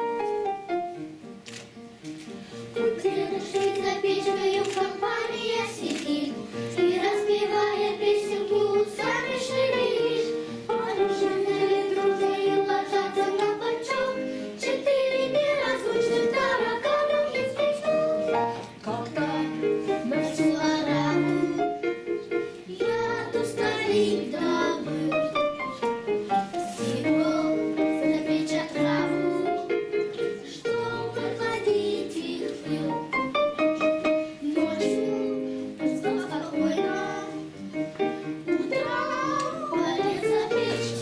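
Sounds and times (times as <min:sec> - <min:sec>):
instrumental accompaniment: 0:00.0 - 0:41.0
children's choir singing: 0:02.7 - 0:41.0.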